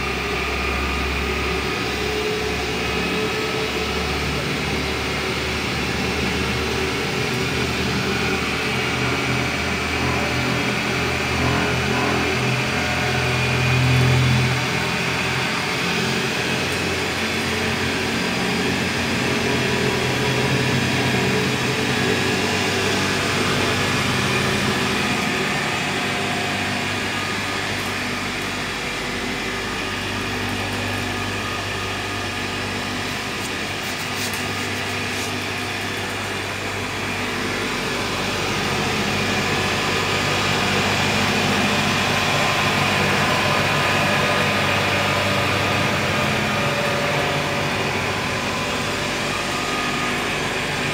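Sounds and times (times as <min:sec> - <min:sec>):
haul-off drive motor humming: 0:00.0 - 0:50.9.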